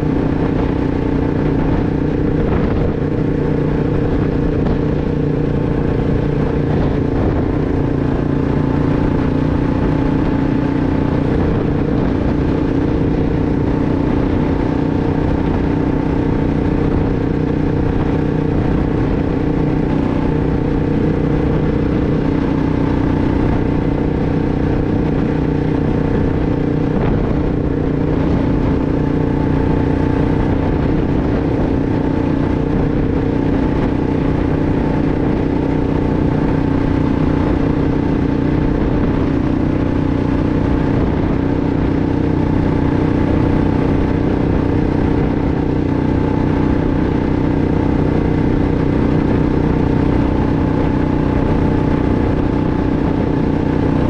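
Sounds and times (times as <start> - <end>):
atv engine running steadily: 0.0 - 54.0.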